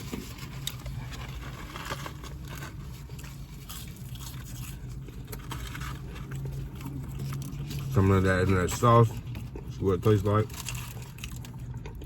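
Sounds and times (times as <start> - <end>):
person chewing food: 0.0 - 12.0
steady low hum: 0.0 - 12.0.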